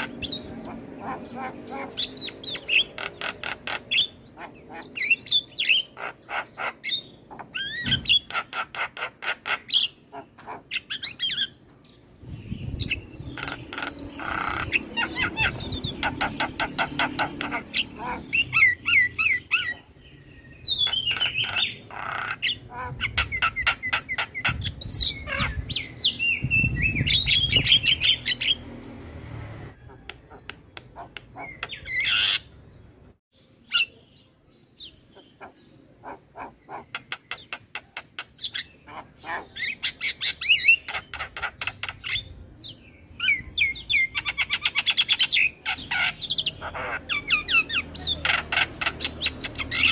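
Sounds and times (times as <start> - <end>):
bird chattering and whistling: 0.0 - 11.6, 12.3 - 28.6, 29.8 - 32.5, 34.8 - 49.9.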